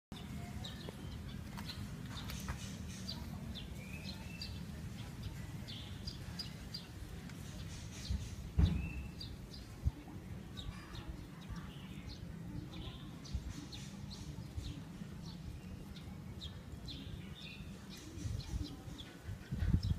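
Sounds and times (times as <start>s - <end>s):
small birds chirping: 0.1s - 19.9s.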